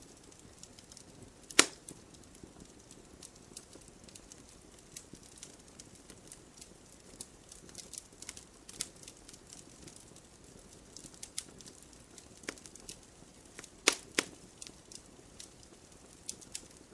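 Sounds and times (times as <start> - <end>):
campfire crackling and popping: 0.0 - 16.9
low rumble of flame: 0.0 - 16.9.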